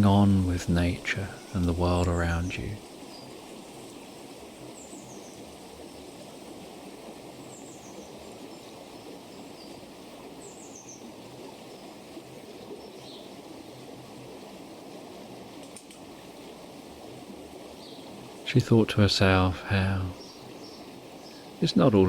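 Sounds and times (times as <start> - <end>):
stream running water: 0.0 - 22.0.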